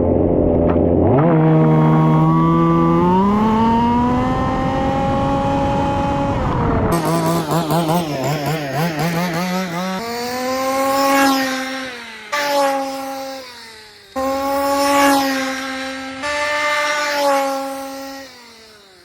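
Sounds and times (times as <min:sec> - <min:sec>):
small petrol engine revving: 0:00.0 - 0:19.0.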